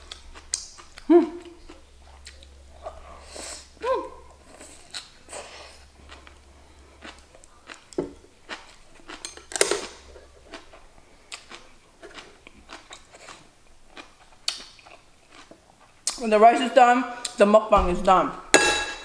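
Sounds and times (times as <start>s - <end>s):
chewing: 0.0s - 16.2s.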